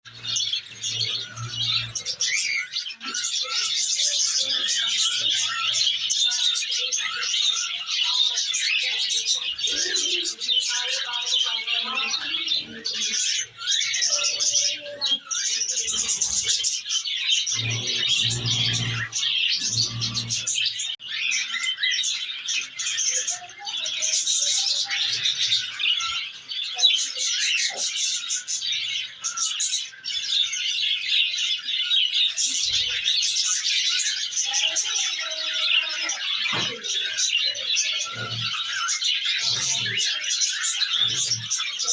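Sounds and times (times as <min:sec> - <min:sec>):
budgerigars chattering and chirping: 0:00.1 - 0:41.9.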